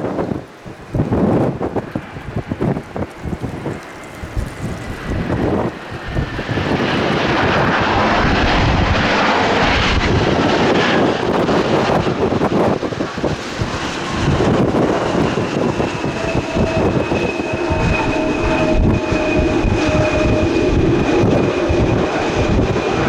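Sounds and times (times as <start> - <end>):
jet engine roar: 0.0 - 23.0
jet engine whine: 0.0 - 23.0.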